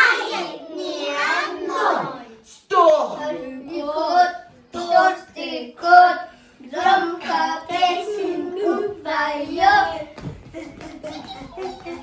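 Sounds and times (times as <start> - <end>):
children singing: 0.0 - 2.4, 3.2 - 12.0.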